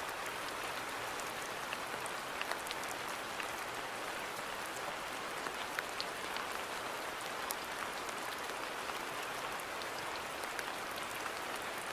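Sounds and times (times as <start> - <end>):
raindrops ticking on leaves: 0.0 - 11.9
steady rain hiss: 0.0 - 11.9.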